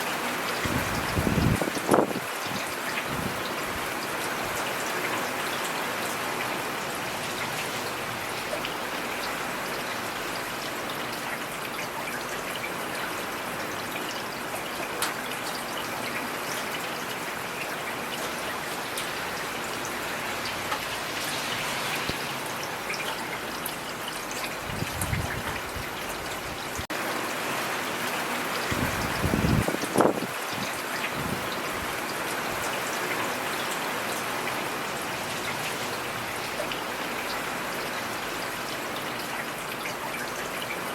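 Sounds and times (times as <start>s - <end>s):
raindrops ticking on surfaces: 0.0s - 40.9s
steady rainfall hiss: 0.0s - 40.9s.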